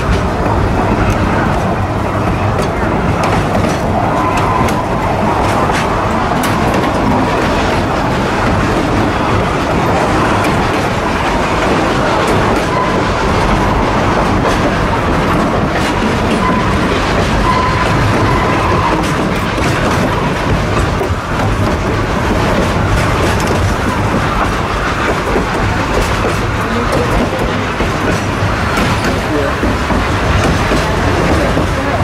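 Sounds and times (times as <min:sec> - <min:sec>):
clicking over rail joints: 0:00.0 - 0:32.0
train wheels rumbling on rails: 0:00.0 - 0:32.0.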